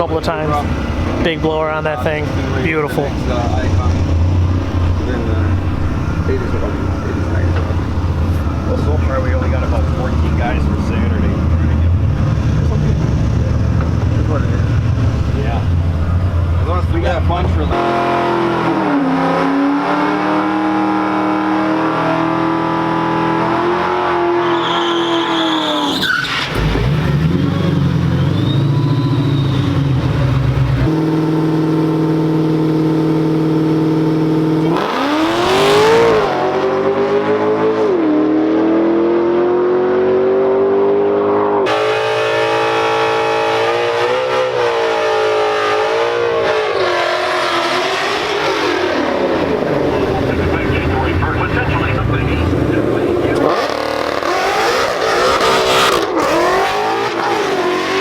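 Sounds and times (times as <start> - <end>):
car accelerating hard: 0.0 - 58.0
car engines revving: 0.0 - 58.0.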